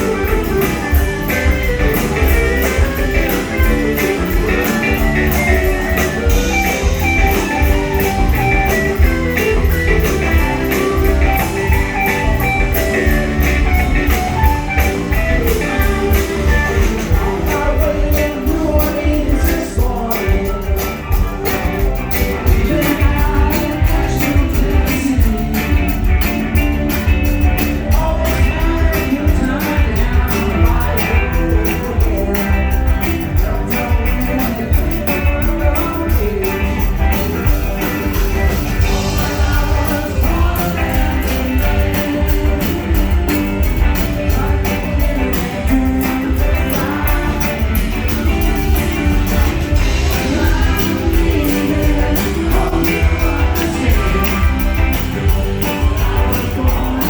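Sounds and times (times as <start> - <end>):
bass guitar: 0.0 - 57.0
drum kit beat: 0.0 - 57.0
electric guitars: 0.0 - 57.0
person singing: 0.0 - 57.0.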